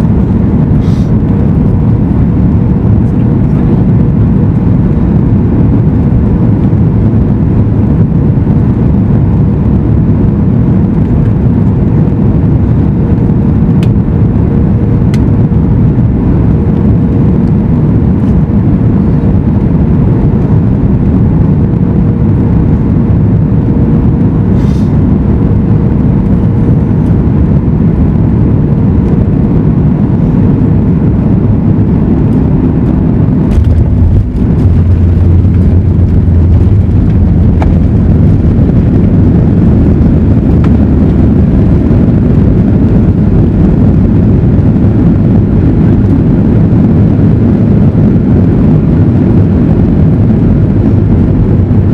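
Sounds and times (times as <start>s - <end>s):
airliner cabin engine drone: 0.0s - 51.9s
deep low rumble: 0.0s - 51.9s
faint steady hum: 0.0s - 51.9s.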